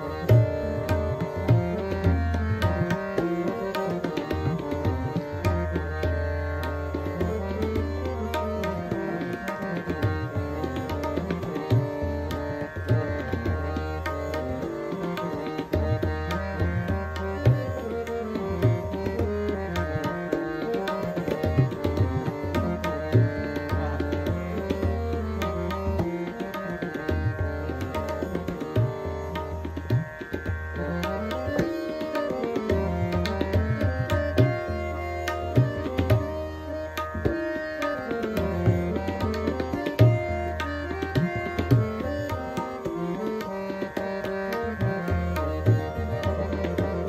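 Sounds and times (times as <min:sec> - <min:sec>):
harmonium held notes: 0:00.0 - 0:47.0
tabla drumming: 0:00.0 - 0:47.0.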